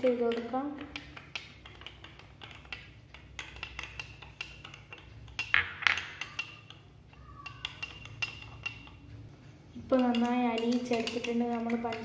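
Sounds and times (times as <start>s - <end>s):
spoon clinking against glass: 0.3s - 9.0s, 10.0s - 12.0s.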